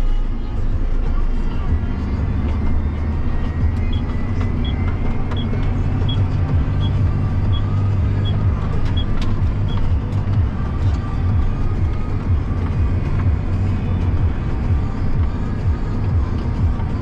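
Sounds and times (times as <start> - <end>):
road noise: 0.0 - 17.0
tractor engine drone: 0.0 - 17.0.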